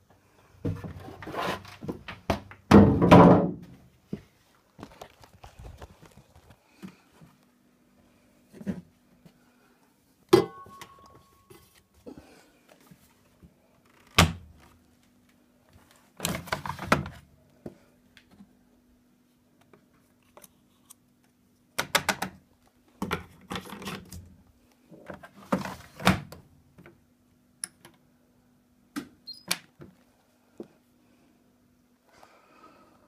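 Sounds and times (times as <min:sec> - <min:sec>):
faint steady hum: 0:03.7 - 0:33.0.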